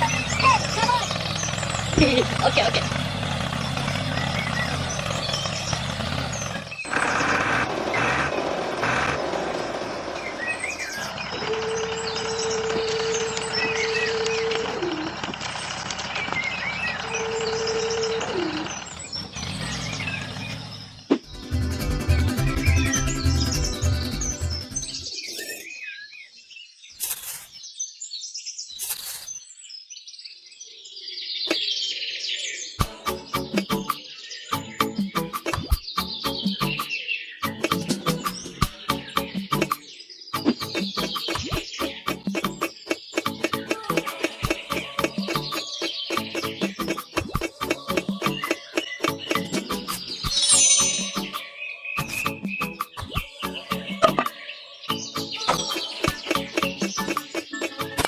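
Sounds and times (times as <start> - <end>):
small birds chirping: 0.0 - 8.2, 9.3 - 58.0.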